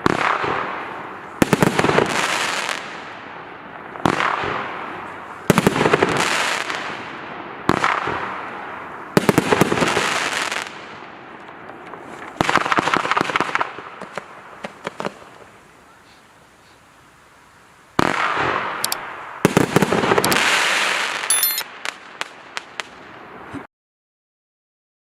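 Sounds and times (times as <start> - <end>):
firework volleys of loud bangs: 0.0 - 15.8, 18.0 - 23.6
firework crackling: 0.0 - 23.5.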